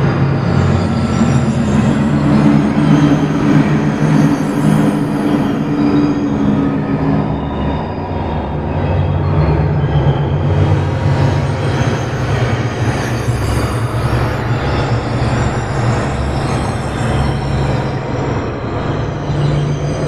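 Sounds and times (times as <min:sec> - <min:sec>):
dense rumbling drone: 0:00.0 - 0:20.0
faint high whistling tones: 0:00.0 - 0:20.0.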